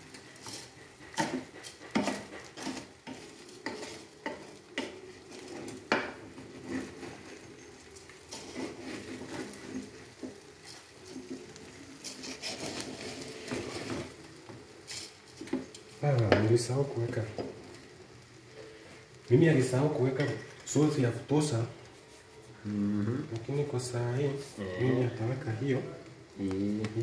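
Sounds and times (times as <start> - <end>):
rice grains scraping and rustling: 0.0 - 22.6, 23.4 - 25.8.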